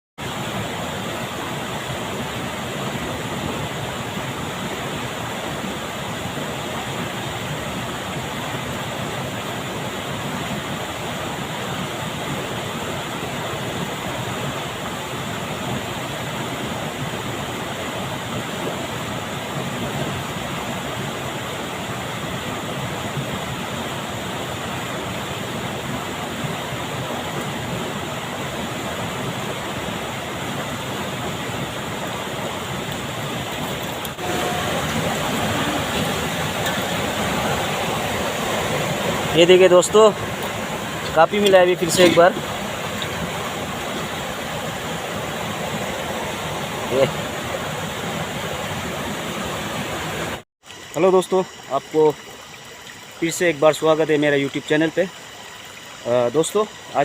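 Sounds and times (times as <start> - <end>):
water rushing: 0.2 - 57.0.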